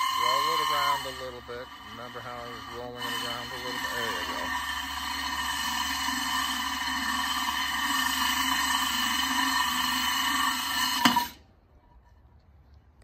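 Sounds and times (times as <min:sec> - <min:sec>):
drill grinding through pot: 0:00.0 - 0:11.4.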